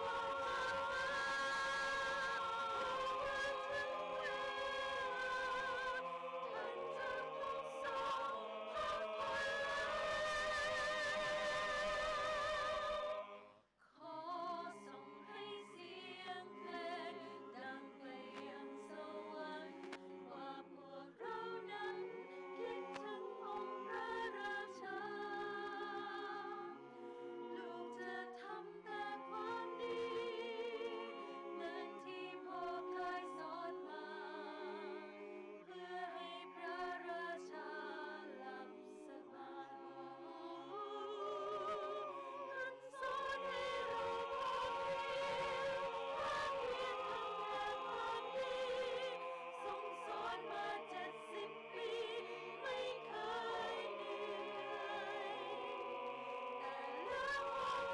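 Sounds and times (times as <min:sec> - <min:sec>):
a cappella choir singing: 0:00.0 - 0:57.9.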